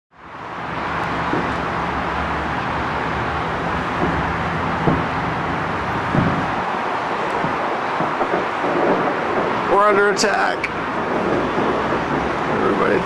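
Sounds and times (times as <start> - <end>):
distant traffic: 0.1 - 13.0
fireworks thumps: 1.1 - 2.4, 3.2 - 13.0.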